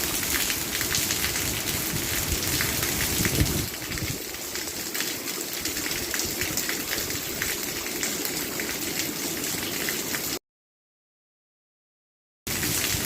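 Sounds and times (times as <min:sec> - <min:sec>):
steady rain falling: 0:00.0 - 0:10.4, 0:12.5 - 0:13.0.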